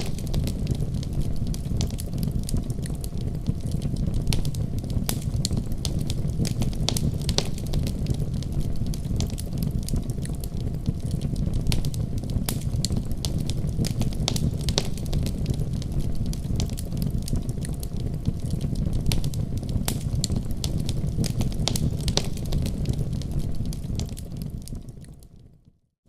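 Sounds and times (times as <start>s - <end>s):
low fire rumble: 0.0s - 25.6s
wood fire crackling: 0.0s - 25.6s.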